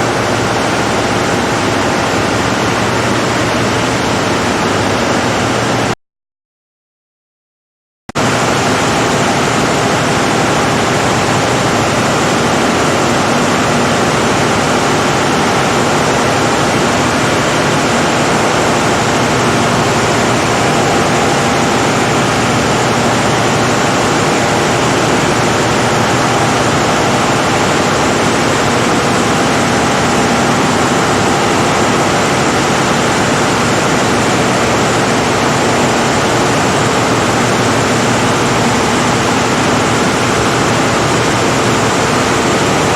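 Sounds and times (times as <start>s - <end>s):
diesel generator running: 0.0s - 5.9s, 8.2s - 42.9s.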